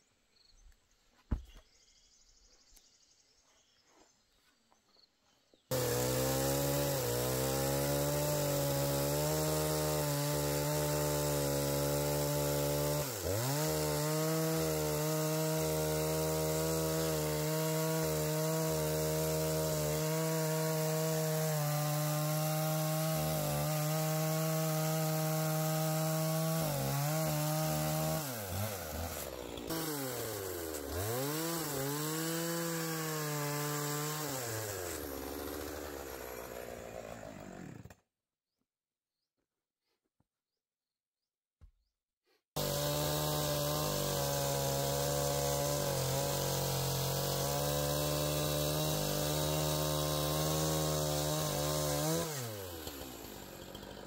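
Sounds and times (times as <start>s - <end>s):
chainsaw cutting log: 5.7s - 38.1s, 42.6s - 54.0s.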